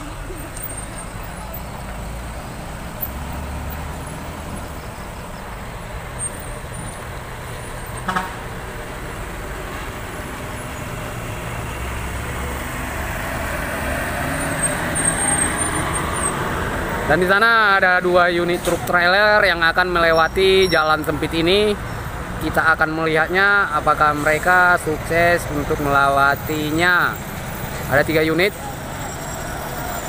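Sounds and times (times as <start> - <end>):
diesel truck engines rumbling: 0.0 - 30.0
truck passing close by: 0.0 - 30.0.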